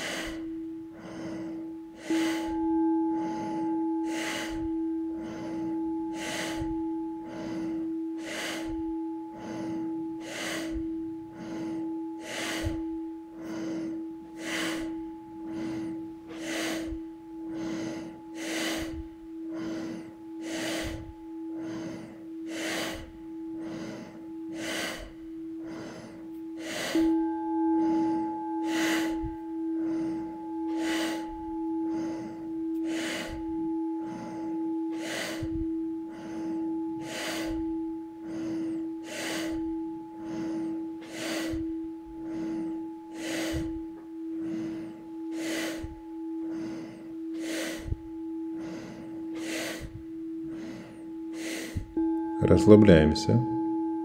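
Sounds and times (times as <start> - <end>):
forceful breathing through nose: 0.0 - 54.0
singing bowl ringing: 0.0 - 54.0.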